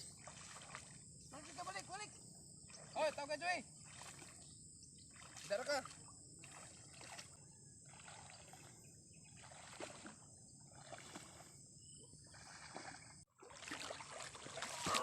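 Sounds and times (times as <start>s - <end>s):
water sloshing: 0.0s - 15.0s.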